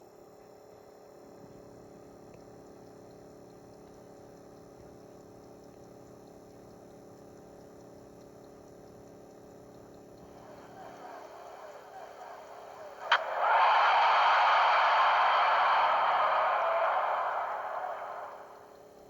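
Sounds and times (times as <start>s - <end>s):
faint hum with hiss: 0.0s - 19.0s.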